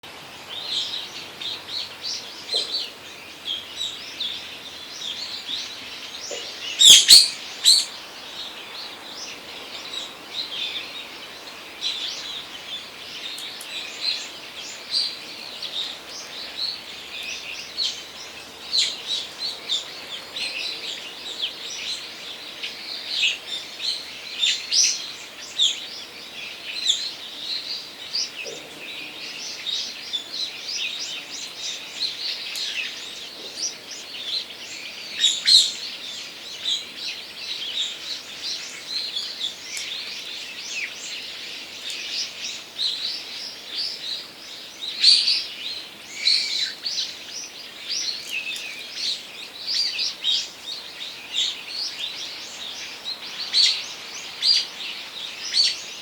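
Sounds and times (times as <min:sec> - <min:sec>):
birds chirping and calling: 0:00.0 - 0:56.0
faint background hiss: 0:00.0 - 0:56.0.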